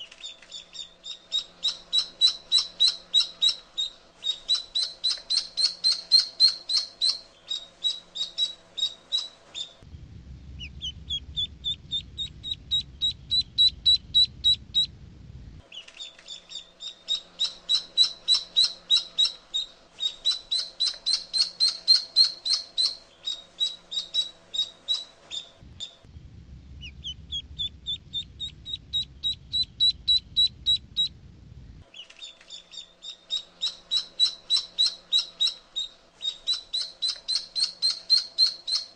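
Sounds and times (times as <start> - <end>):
duckling peeping: 0.0 - 9.8, 10.6 - 14.9, 15.6 - 26.0, 26.8 - 31.1, 31.9 - 38.9
faint low rumble: 0.0 - 38.9.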